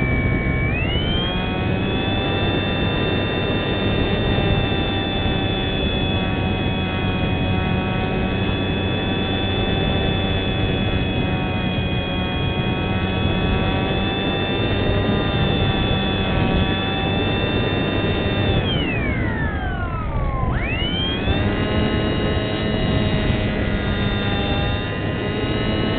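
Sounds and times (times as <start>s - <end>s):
model plane motor whining: 0.0s - 25.9s.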